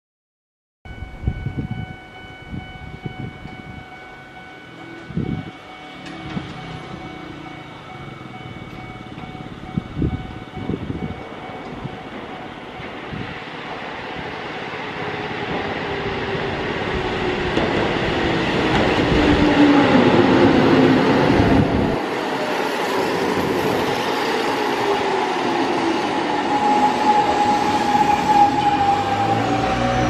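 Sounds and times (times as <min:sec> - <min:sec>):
electric railcar running past: 0:00.9 - 0:30.0
railcar braking whine: 0:00.9 - 0:30.0.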